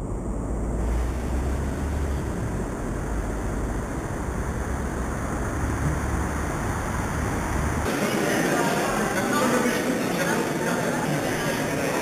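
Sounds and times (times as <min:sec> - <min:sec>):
outdoor ambience rumble and hiss: 0:00.0 - 0:12.0.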